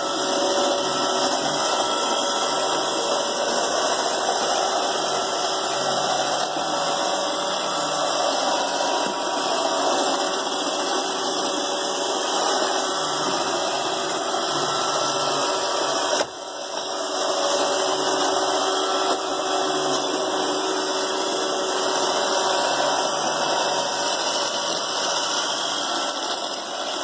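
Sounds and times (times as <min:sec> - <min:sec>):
robot vacuum whirring: 0:00.0 - 0:27.0.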